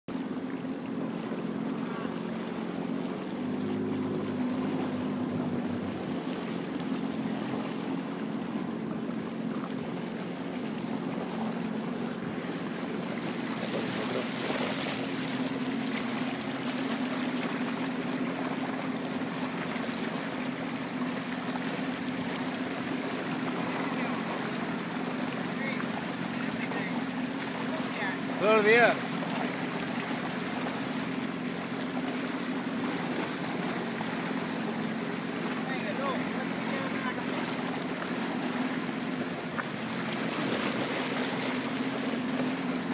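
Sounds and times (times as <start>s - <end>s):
boat motor running: 0.0s - 42.9s
water noise: 0.0s - 42.9s.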